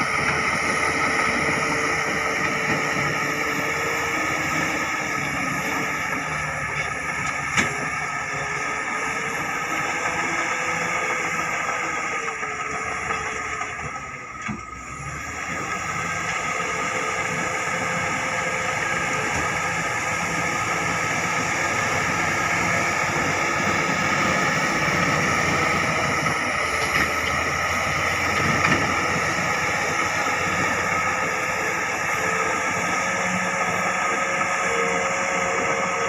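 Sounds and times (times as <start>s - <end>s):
diesel machinery running: 0.0s - 36.0s.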